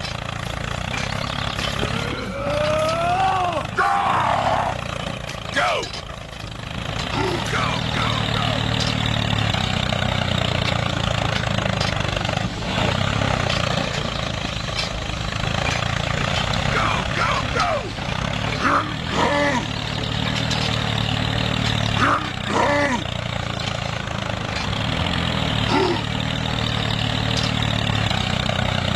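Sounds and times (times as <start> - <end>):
small motor droning: 0.0 - 28.9
voices calling out: 0.0 - 28.9.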